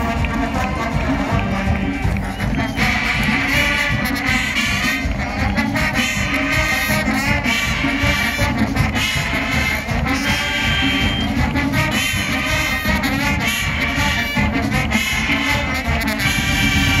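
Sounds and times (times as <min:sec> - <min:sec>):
brass playing tune: 0:00.0 - 0:17.0
marching band playing: 0:00.0 - 0:17.0
steady drum beat: 0:00.0 - 0:17.0.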